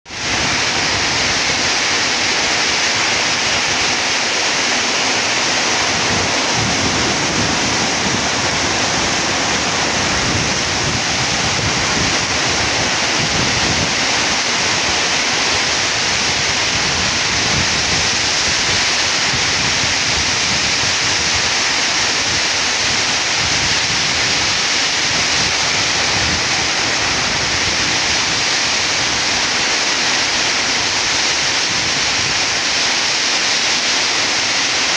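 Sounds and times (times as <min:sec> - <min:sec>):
gusting storm wind: 0:00.1 - 0:34.9
heavy rain hissing: 0:00.1 - 0:34.9.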